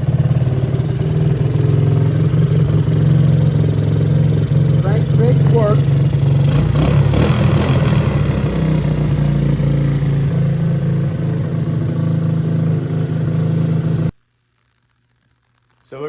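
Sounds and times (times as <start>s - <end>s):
small engine running: 0.0s - 14.1s.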